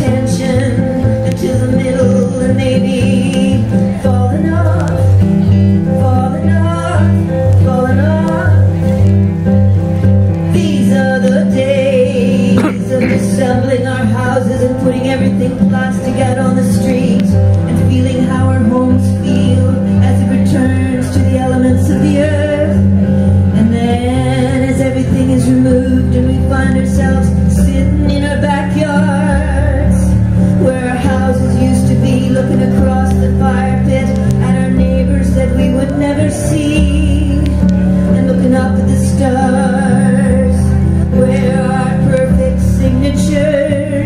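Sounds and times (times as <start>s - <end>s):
digital piano chords: 0.0s - 44.0s
keyboard low held notes: 0.0s - 44.0s
woman singing into microphone: 0.0s - 44.0s.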